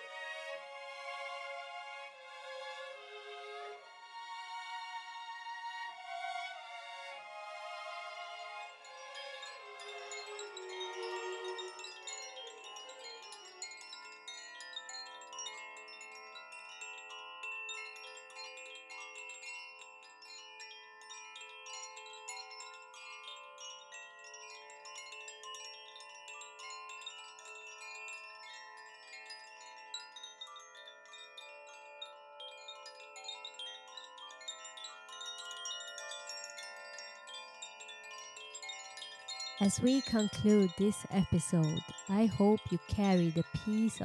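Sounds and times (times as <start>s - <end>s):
wind chimes ringing: 8.7s - 44.0s.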